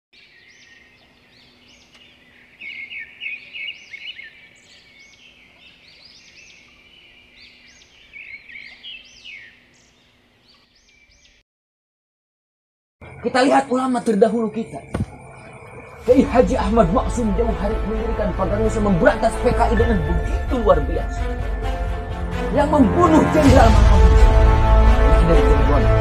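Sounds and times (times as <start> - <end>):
birds chirping and singing: 0.2 - 11.4, 13.0 - 26.0.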